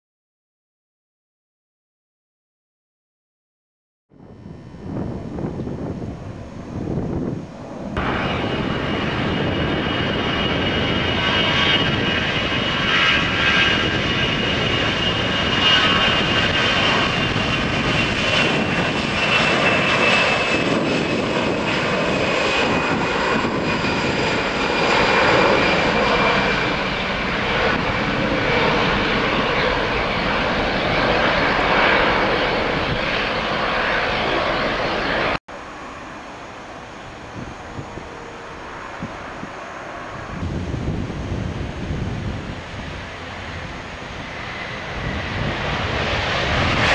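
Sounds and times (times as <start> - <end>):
jet engines roaring at takeoff: 4.1 - 46.9.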